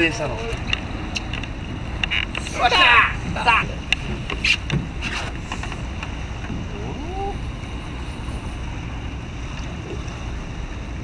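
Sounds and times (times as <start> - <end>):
small boat on water: 0.0 - 11.0
wind on microphone: 0.5 - 11.0.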